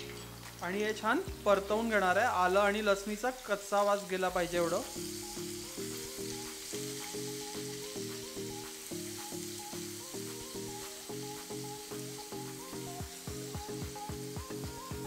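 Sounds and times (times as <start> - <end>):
background music: 0.0 - 15.0
garlic sizzling in hot oil: 0.0 - 15.0.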